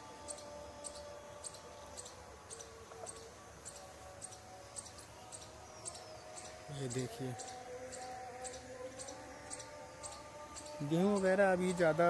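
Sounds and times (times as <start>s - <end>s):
faint steady tones: 0.0s - 12.0s.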